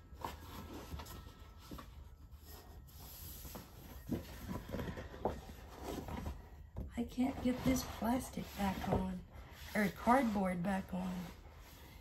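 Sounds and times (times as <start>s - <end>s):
cardboard rubbing and scraping: 0.2s - 12.0s.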